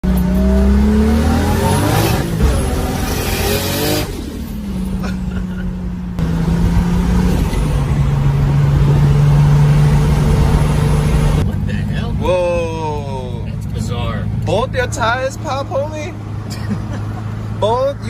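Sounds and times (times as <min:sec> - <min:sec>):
turbo car engine revving: 0:00.0 - 0:17.8.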